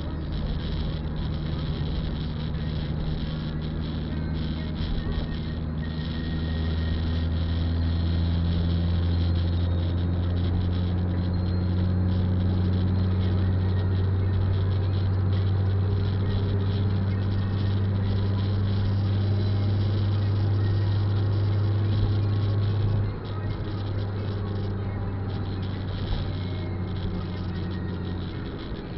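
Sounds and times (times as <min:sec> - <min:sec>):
car engine drone: 0:00.0 - 0:28.9.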